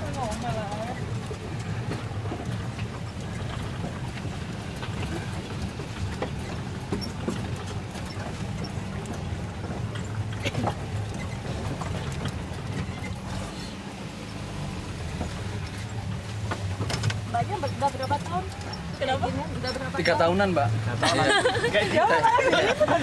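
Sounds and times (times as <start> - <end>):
off-road vehicle engine running: 0.0 - 23.0
vehicle knocks and rattles: 0.0 - 23.0.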